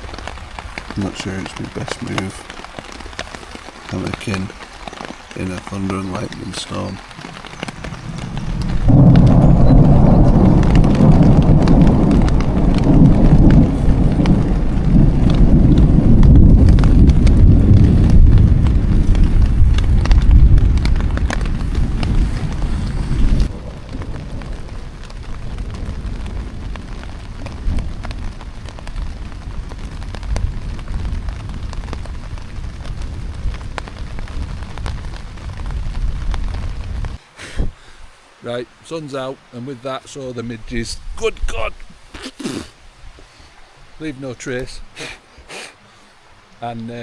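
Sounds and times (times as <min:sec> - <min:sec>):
thunder rumbling: 0:00.0 - 0:37.8
rain pattering: 0:00.0 - 0:47.0.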